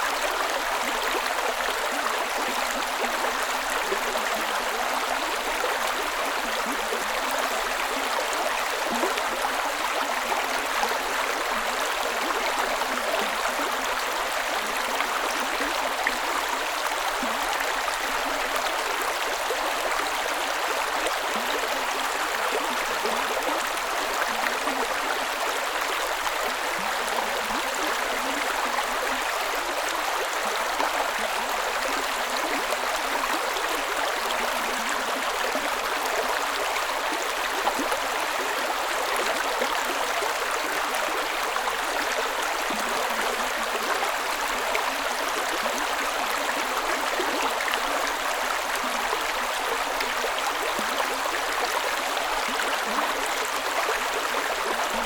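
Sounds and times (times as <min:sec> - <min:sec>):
creek water running over stones: 0:00.0 - 0:55.0.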